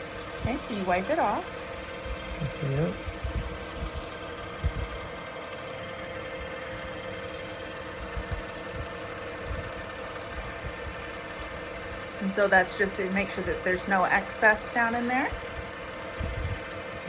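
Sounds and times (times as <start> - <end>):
lathe motor humming: 0.0 - 17.0.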